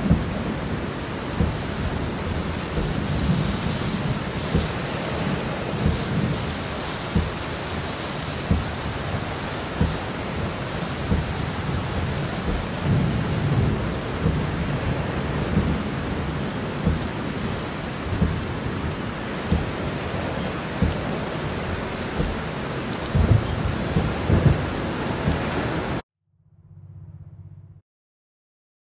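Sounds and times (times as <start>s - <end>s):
heavy rain on car roof: 0.0s - 26.0s
low thuds: 0.0s - 26.0s.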